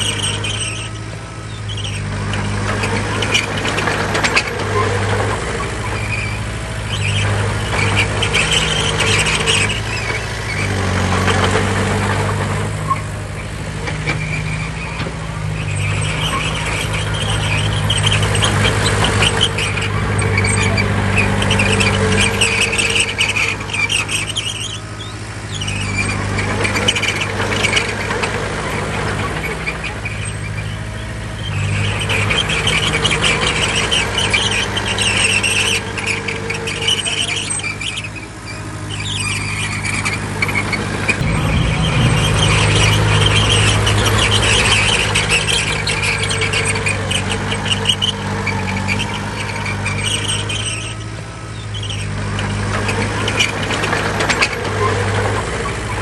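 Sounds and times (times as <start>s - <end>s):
bulldozer diesel engine: 0.0s - 56.0s
steel tracks squealing: 0.0s - 56.0s.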